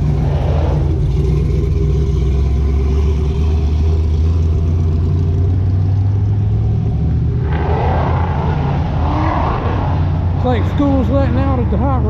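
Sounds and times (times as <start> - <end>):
pickup truck engine passing: 0.0 - 12.0.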